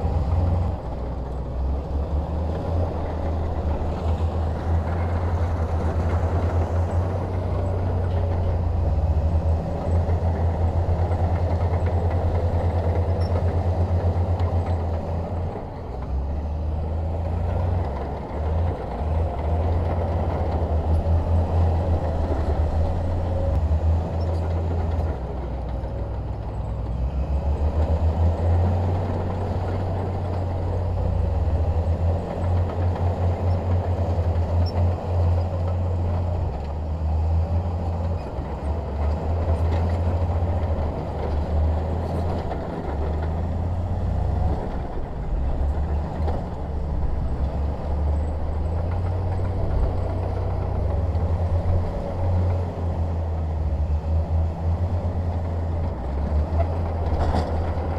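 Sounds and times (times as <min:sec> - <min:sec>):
bulldozer diesel engine under load: 0:00.0 - 0:57.9.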